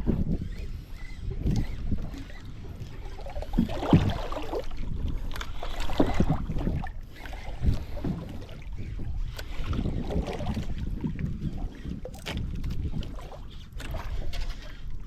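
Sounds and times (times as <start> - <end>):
wind rumbling on microphone: 0.0 - 15.0
water slapping against boat hull: 1.4 - 15.0.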